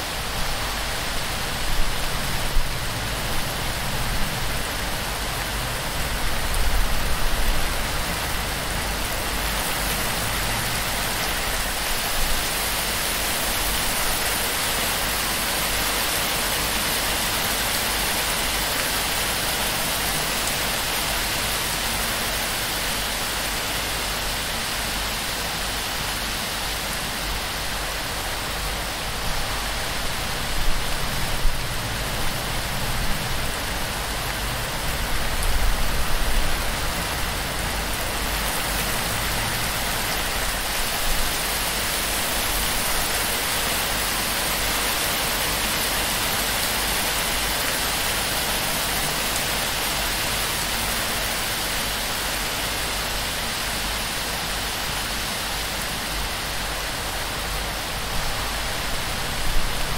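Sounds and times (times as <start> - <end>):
heavy rain on thatch roof: 0.0 - 59.9.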